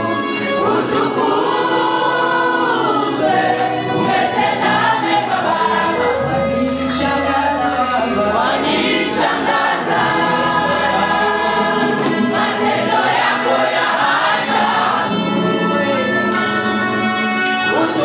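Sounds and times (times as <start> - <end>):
choir singing gospel song: 0.0 - 18.0
congregation singing along: 0.0 - 18.0.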